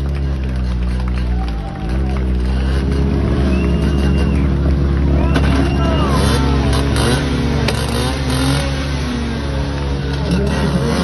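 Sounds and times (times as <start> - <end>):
low engine drone: 0.0 - 11.0
motorbike engines revving: 0.0 - 11.0.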